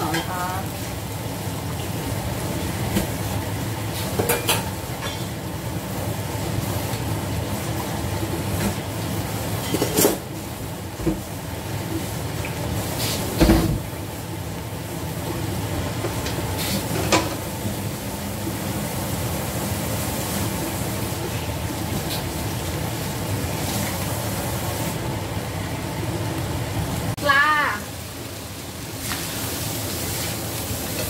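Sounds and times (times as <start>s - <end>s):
stir-fry hissing in a wok: 0.0s - 31.0s.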